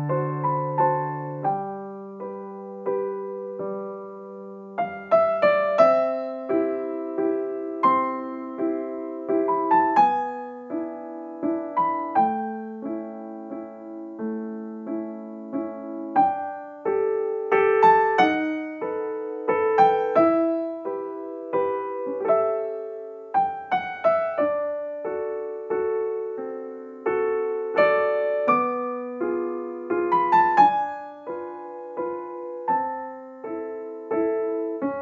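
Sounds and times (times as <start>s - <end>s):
slow gentle piano music: 0.0s - 35.0s.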